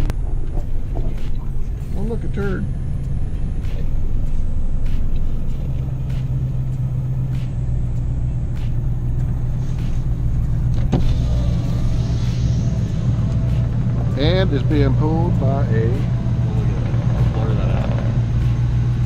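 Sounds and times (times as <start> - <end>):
car exhaust drone inside cabin: 0.0 - 19.0
road noise: 0.0 - 19.0.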